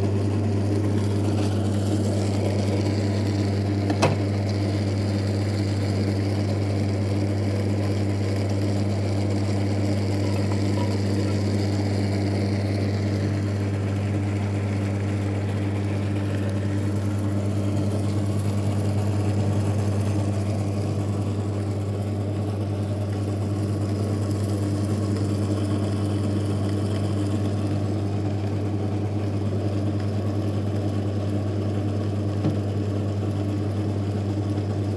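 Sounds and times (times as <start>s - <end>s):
lathe machine hum: 0.0s - 34.9s.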